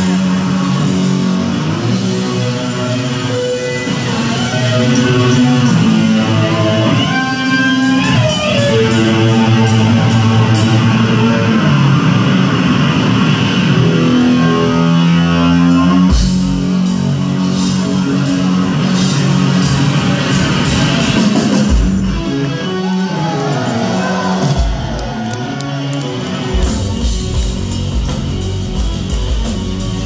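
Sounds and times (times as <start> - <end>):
bass guitar: 0.0 - 30.0
drums: 0.0 - 30.0
electric guitar riff with bent notes: 0.0 - 30.0.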